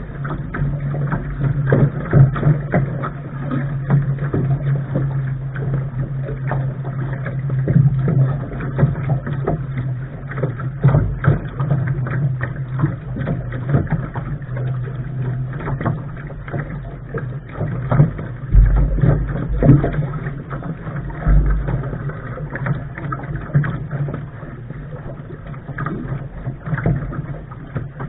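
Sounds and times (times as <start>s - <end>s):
steady low hum: 0.0s - 28.0s
water splashing against boat hull: 0.0s - 28.0s
wind rumbling on microphone: 0.0s - 28.0s.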